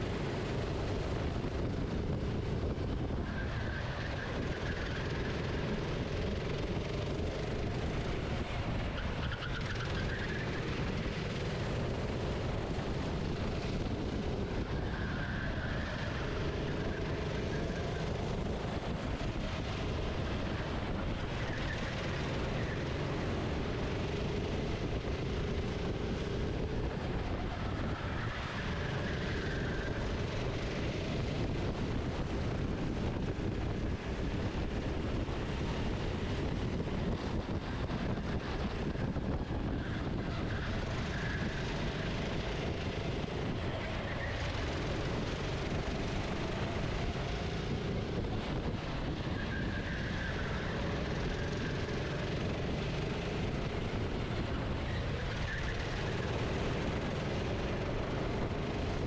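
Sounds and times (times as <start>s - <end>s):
kart engine accelerating: 0.0s - 59.0s
rush of air and track noise: 0.0s - 59.0s.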